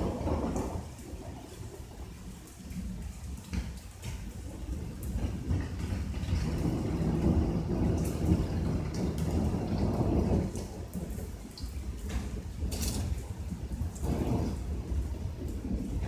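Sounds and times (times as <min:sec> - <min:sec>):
rain with drops ticking: 0:00.0 - 0:16.0
thunder rumbling: 0:00.0 - 0:16.0.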